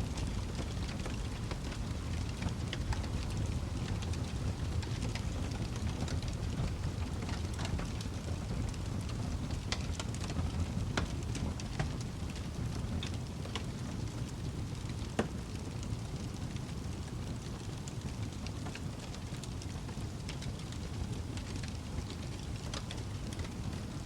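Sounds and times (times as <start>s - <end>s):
fire popping and snapping: 0.0s - 24.0s
low rumble of flames: 0.0s - 24.0s.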